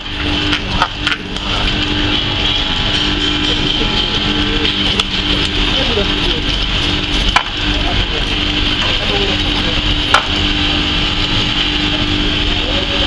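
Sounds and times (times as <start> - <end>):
electric fish scaler humming: 0.0 - 13.0.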